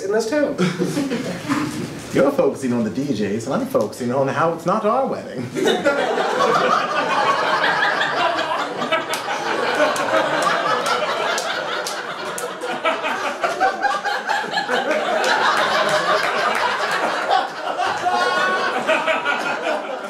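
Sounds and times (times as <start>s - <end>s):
audience laughing: 0.6s - 2.1s, 5.4s - 20.0s.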